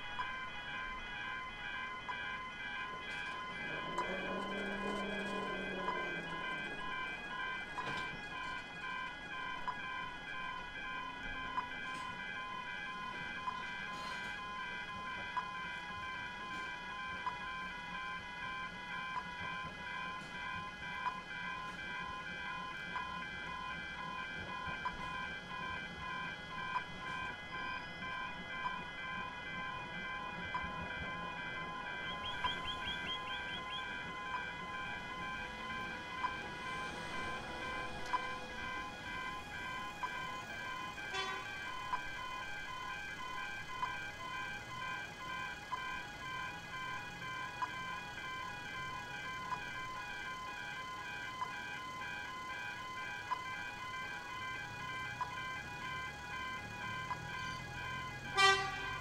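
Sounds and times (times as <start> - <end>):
level crossing warning bells: 0.0 - 59.0.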